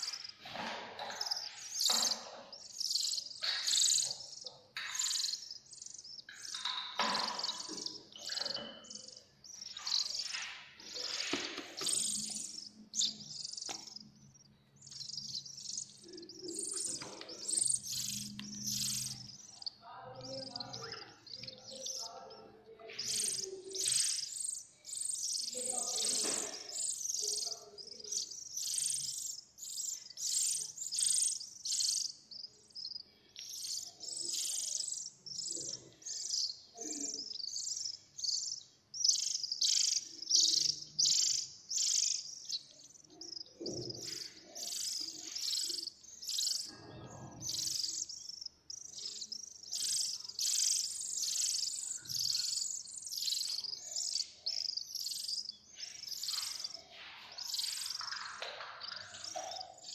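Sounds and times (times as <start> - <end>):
baby birds chirping: 0.0 - 59.9.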